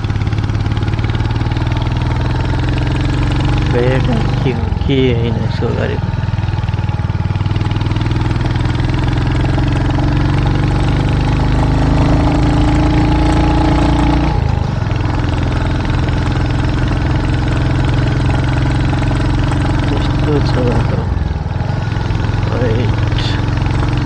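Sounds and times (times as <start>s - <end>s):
motorcycle engine pulling uphill: 0.0s - 24.0s.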